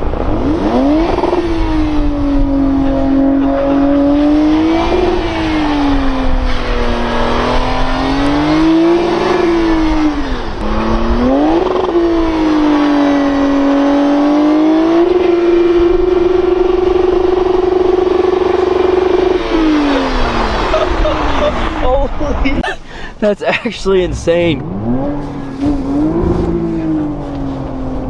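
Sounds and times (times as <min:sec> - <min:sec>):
car engine revving: 0:00.0 - 0:22.6, 0:23.8 - 0:28.0.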